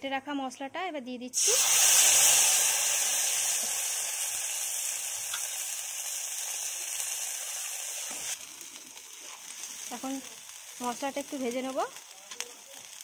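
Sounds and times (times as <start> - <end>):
spice paste sizzling in oil: 1.4 - 13.0.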